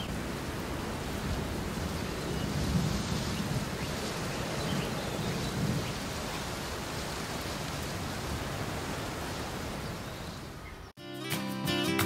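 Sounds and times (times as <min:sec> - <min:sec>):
artificial rain falling: 0:00.0 - 0:10.6.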